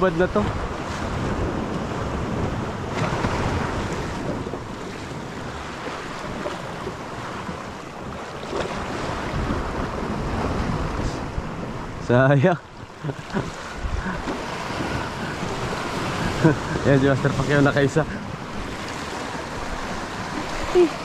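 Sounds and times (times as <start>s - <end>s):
surf washing on rocks: 0.0s - 21.0s
wind buffeting microphone: 0.0s - 21.0s.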